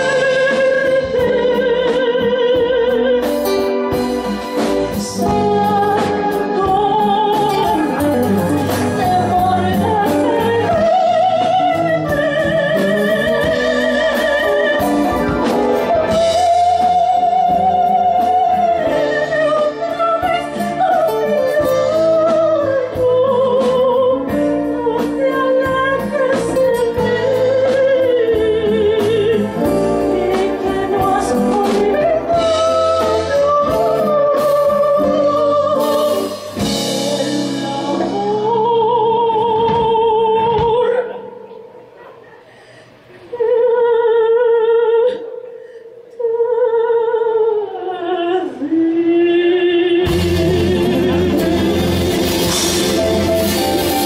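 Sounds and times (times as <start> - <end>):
guitar: 0.0 - 41.6, 49.9 - 54.0
soprano singing with vibrato: 0.0 - 41.7, 43.2 - 54.0
piano: 0.0 - 54.0.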